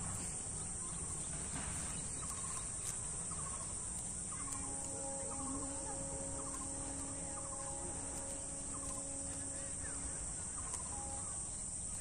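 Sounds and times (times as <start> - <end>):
insect chorus drone: 0.0 - 12.0
low hum with overtones: 0.0 - 12.0.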